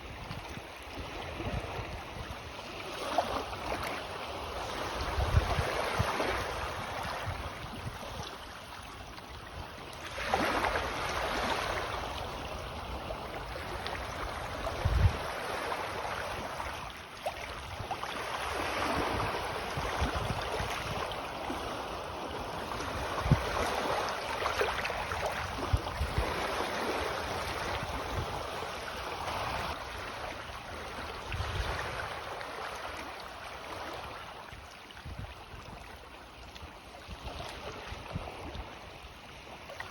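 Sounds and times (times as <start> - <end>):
waves lapping at shore: 0.0 - 39.9.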